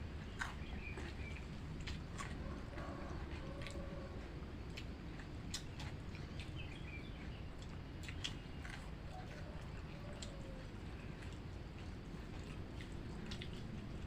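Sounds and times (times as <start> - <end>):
chewing: 0.0 - 14.0
low background hum: 0.0 - 14.0.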